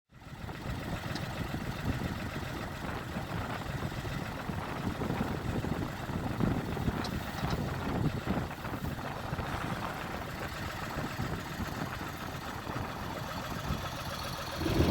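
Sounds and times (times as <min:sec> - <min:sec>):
tractor engine running: 0:00.2 - 0:14.9.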